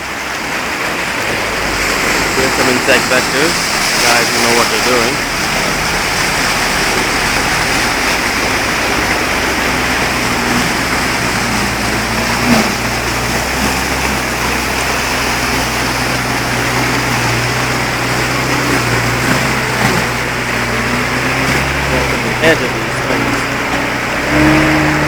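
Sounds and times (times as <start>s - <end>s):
floodwater rushing along street: 0.0s - 25.0s
vehicle engine running: 0.0s - 25.0s.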